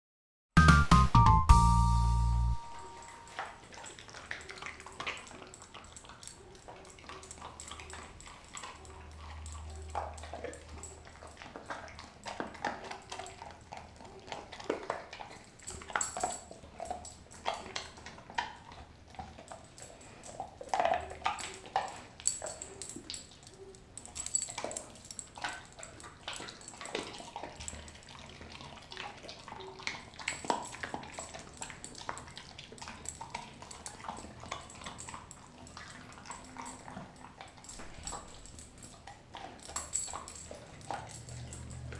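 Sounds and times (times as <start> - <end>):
dog chewing and licking: 3.2 - 41.9.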